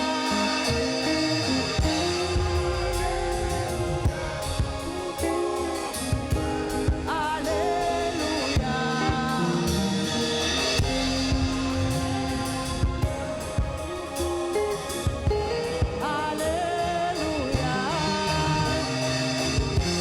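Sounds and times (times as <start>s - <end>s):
drum kit beat: 0.0s - 20.0s
gospel band playing: 0.0s - 20.0s
person singing: 0.0s - 20.0s.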